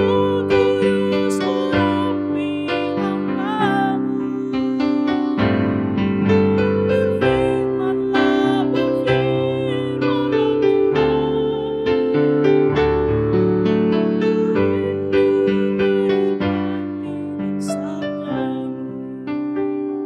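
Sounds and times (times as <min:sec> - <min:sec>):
woman singing into microphone: 0:00.0 - 0:05.2, 0:06.6 - 0:12.6, 0:14.2 - 0:19.3
electric piano: 0:00.0 - 0:20.0.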